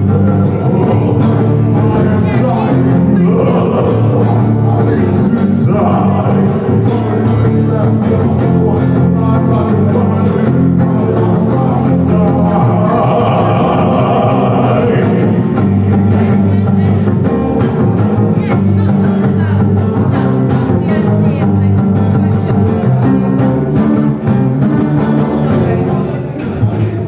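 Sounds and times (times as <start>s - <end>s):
acoustic guitar strumming: 0.0s - 27.0s
man singing: 0.0s - 27.0s.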